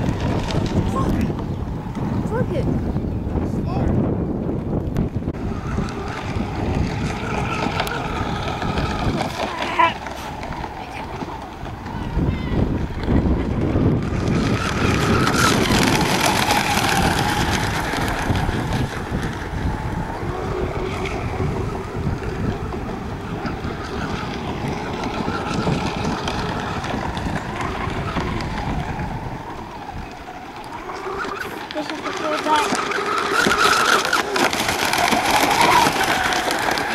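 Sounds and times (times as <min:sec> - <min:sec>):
racing boat motors whining: 0:00.0 - 0:36.9
wind rumble on microphone: 0:00.0 - 0:36.9.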